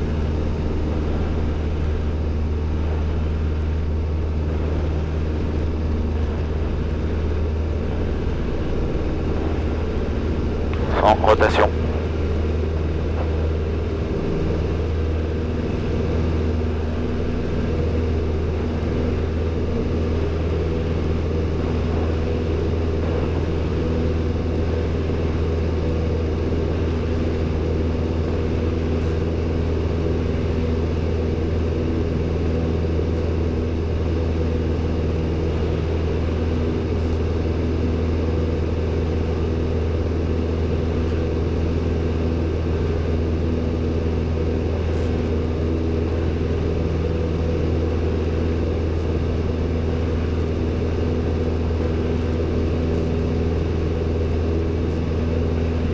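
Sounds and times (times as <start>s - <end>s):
airplane engine droning: 0.0s - 55.9s.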